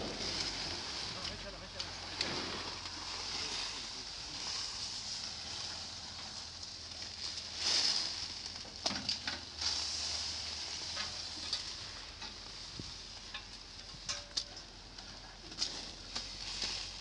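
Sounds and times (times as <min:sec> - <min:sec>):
plastic sheeting rustling: 0:00.0 - 0:13.1, 0:15.2 - 0:17.0.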